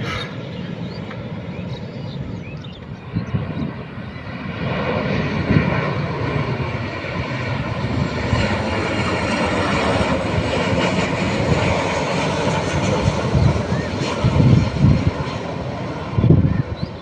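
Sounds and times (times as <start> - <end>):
airplane engines roaring: 0.0 - 17.0.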